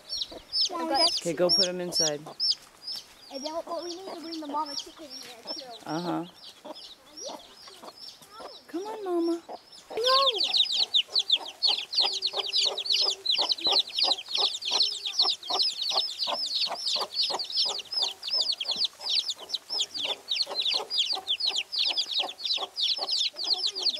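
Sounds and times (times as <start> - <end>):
chicks peeping: 0.0 - 23.9
hen clucking: 0.0 - 23.9.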